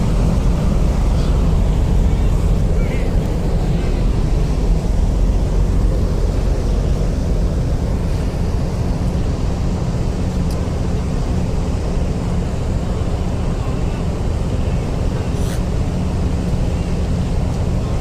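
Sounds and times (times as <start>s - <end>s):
ship diesel engines rumbling: 0.0s - 18.0s.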